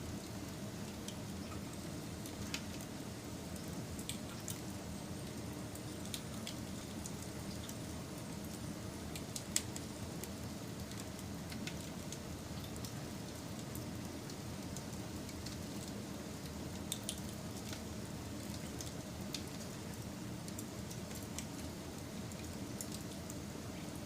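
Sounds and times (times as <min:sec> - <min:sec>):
fire crackles and pops: 0:00.1 - 0:24.0
wood fire burning: 0:00.1 - 0:24.0.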